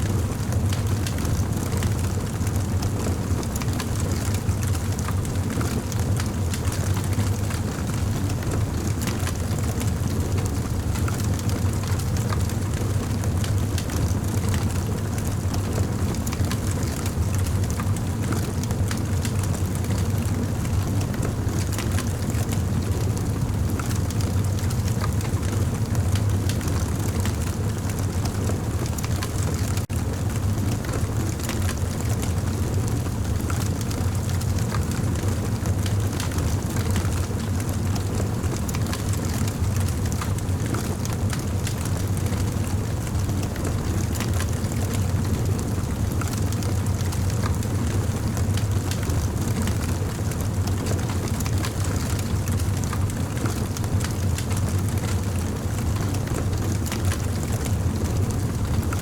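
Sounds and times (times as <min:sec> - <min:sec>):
campfire flames rumbling: 0:00.0 - 0:59.0.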